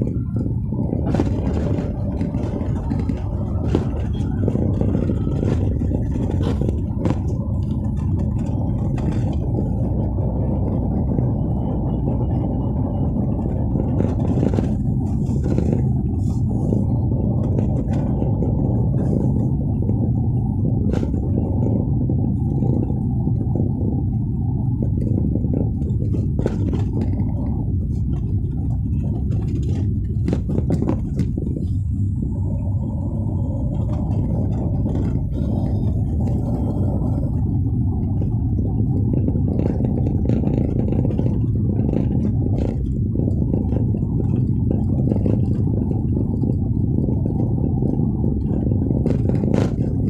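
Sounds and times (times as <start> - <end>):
car driving rumble: 0.0 - 50.0.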